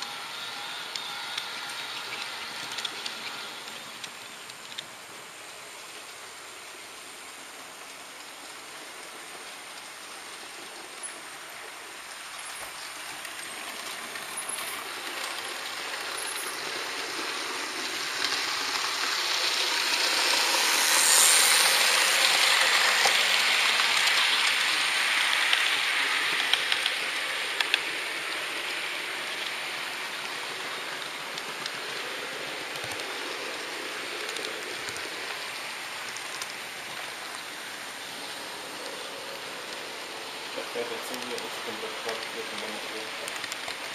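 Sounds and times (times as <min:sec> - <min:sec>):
model train rolling hiss: 0:00.0 - 0:43.9.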